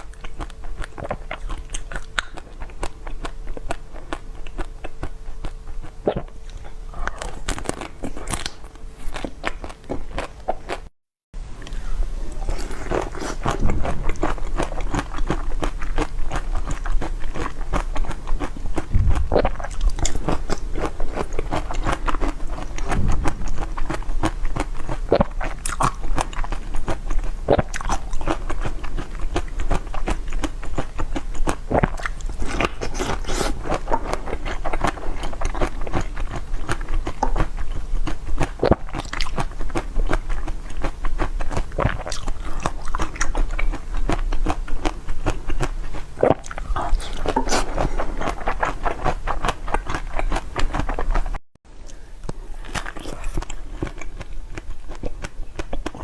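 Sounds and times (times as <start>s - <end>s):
chewing crunchy food: 0.0s - 10.9s, 11.6s - 56.0s.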